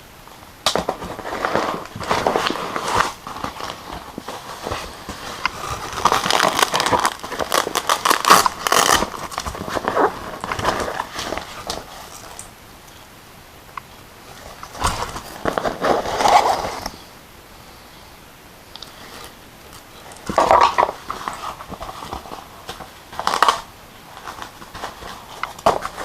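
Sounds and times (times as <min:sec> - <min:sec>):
packaging crackling and crinkling: 0:00.6 - 0:12.5, 0:14.2 - 0:17.1, 0:18.8 - 0:26.0.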